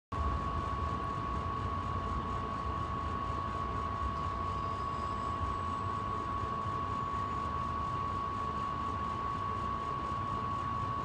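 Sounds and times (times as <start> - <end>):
condenser fan and motor hum: 0.1 - 11.0.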